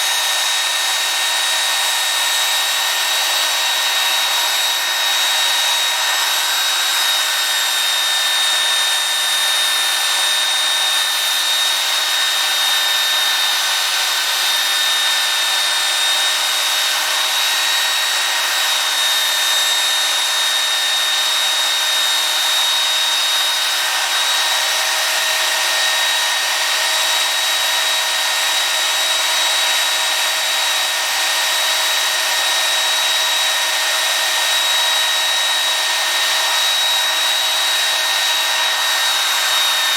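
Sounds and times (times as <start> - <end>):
belt sander grinding: 0.0 - 39.9.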